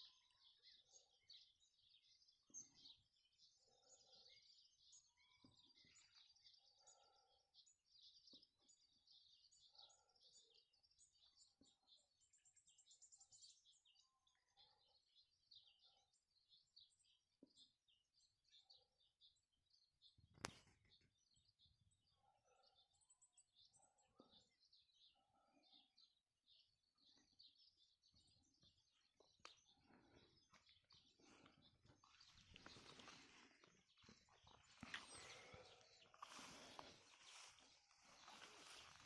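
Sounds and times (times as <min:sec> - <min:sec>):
small birds chirping and twittering: 0:00.0 - 0:39.0.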